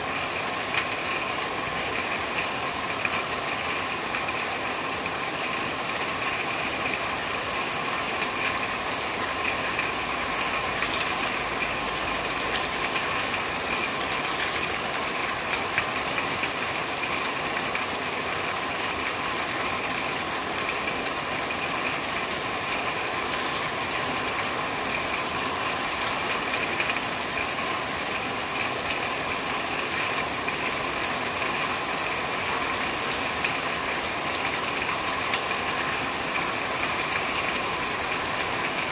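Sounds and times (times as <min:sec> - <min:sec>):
rain on a corrugated roof: 0:00.0 - 0:38.9.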